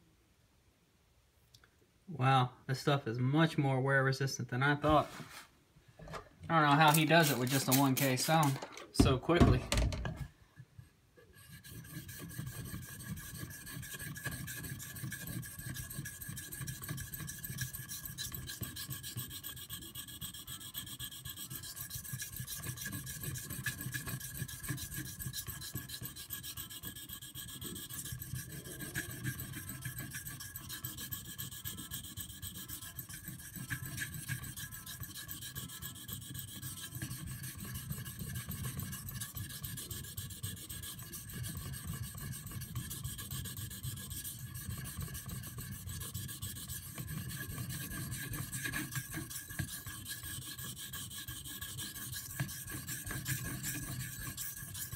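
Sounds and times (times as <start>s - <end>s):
knife scraping on whetstone: 6.0s - 9.9s, 11.2s - 54.9s.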